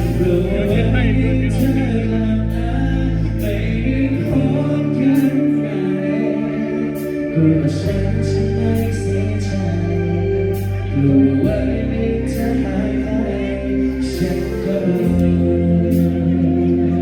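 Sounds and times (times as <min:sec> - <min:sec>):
bass notes: 0:00.0 - 0:17.0
live band playing: 0:00.0 - 0:17.0
person singing: 0:00.0 - 0:17.0.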